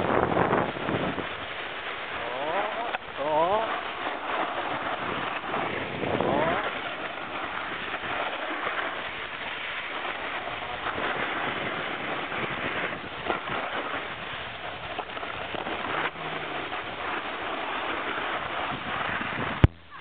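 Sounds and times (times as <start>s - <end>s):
snowboard scraping over snow: 0.0s - 19.7s.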